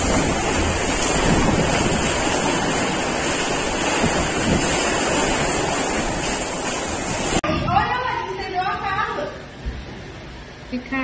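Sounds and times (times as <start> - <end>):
heavy rain downpour: 0.0 - 9.0
wind buffeting microphone: 0.0 - 9.0.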